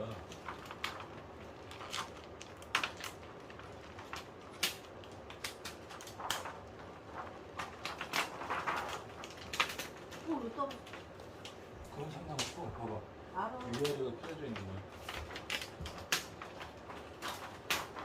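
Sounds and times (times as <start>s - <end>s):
plastic parts clicking and rustling: 0.0s - 18.0s.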